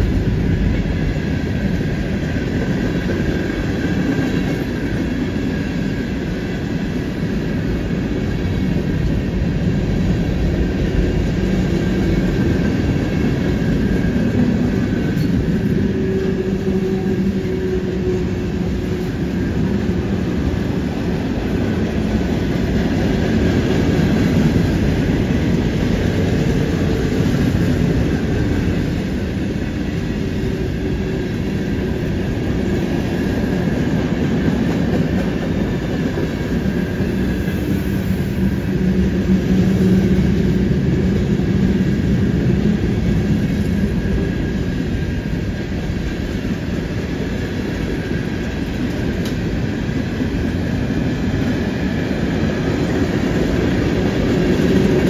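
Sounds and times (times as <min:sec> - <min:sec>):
steel wheels rolling on rails: 0:00.0 - 0:55.0.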